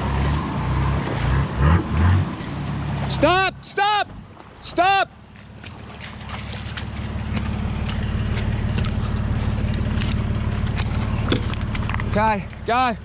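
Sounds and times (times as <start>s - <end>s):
engine running at low revs: 0.0s - 3.4s, 5.2s - 13.0s.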